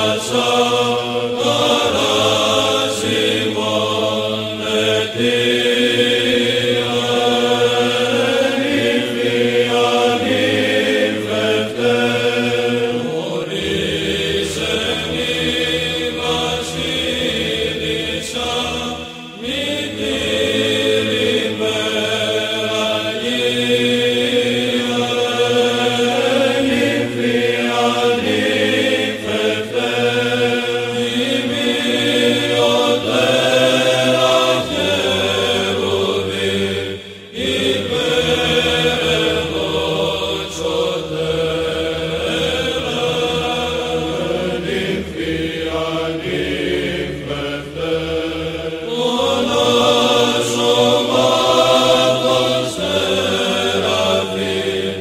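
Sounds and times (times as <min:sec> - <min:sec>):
low held vocal drone: 0:00.0 - 0:55.0
male voices chanting a hymn: 0:00.0 - 0:55.0.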